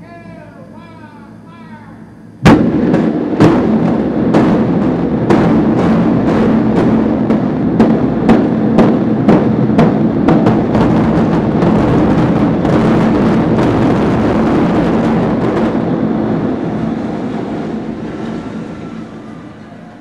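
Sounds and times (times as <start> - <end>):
demolition charges banging: 2.4 - 19.5
building collapse rumble: 2.5 - 20.0.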